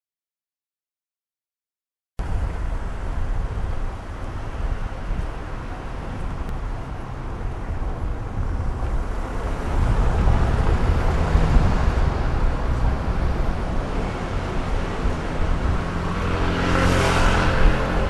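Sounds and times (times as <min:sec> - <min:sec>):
passing cars rumbling: 0:02.2 - 0:18.0.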